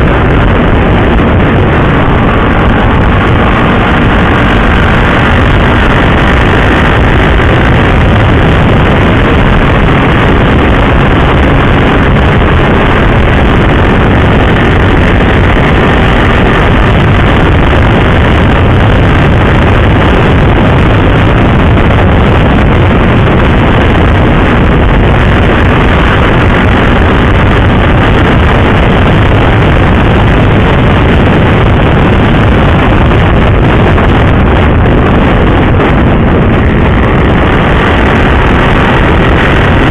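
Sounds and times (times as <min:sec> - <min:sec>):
motorcycle engine: 0:00.0 - 0:39.9
road noise: 0:00.0 - 0:39.9
wind buffeting on microphone: 0:00.0 - 0:39.9.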